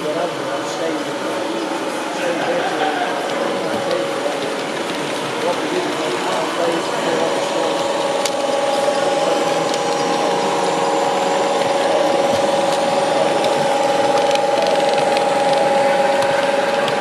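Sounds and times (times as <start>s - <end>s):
model train motor whining: 1.3s - 17.0s.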